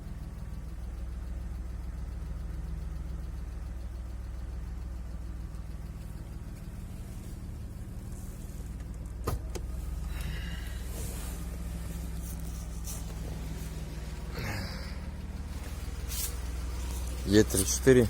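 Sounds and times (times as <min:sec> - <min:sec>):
car engine idling: 0:00.0 - 0:18.0
engine ticking knock: 0:00.0 - 0:18.0.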